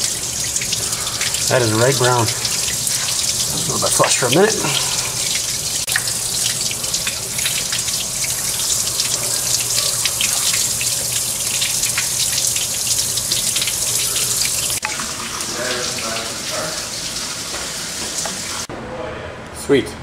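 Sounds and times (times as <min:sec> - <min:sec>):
water gushing and splashing from hose: 0:00.0 - 0:18.7.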